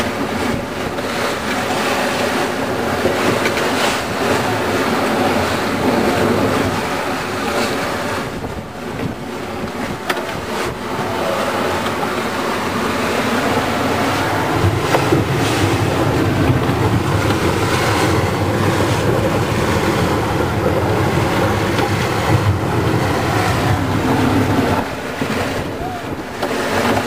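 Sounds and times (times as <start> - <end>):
rush of water and wind: 0.0 - 27.0.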